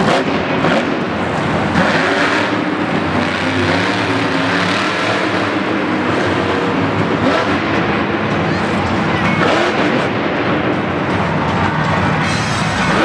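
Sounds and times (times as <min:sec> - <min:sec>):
arena crowd din: 0:00.0 - 0:13.0
loud truck engine revving: 0:00.0 - 0:13.0.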